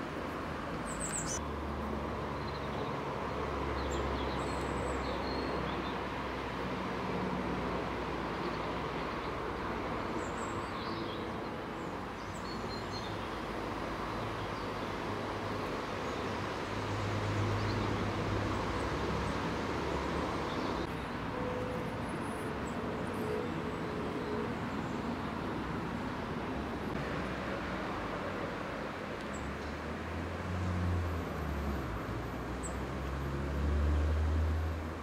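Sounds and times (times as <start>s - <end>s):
distant road traffic rumble: 0.0s - 35.0s.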